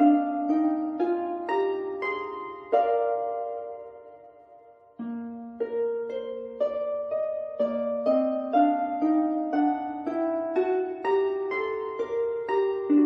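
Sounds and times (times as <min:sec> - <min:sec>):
harp-like plucked string melody: 0:00.0 - 0:13.0.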